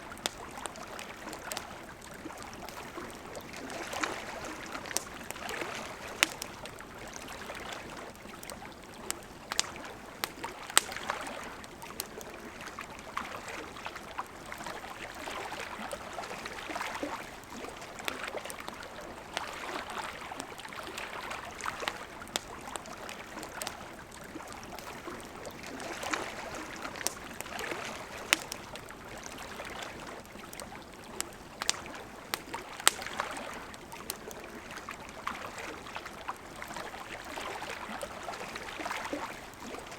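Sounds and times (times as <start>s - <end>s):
campfire crackling: 0.0s - 39.9s
river flowing: 0.0s - 39.9s.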